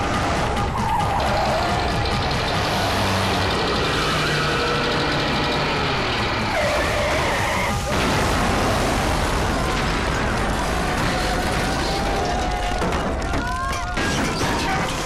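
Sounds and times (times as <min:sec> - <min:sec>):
engines racing: 0:00.0 - 0:12.9
tyres skidding: 0:00.0 - 0:13.3.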